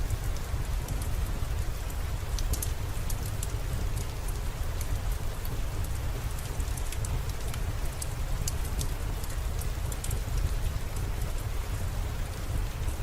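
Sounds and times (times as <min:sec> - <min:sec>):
constant low rumble: 0:00.0 - 0:13.0
rain falling: 0:00.0 - 0:13.0
sharp ticks of raindrops: 0:00.0 - 0:13.0.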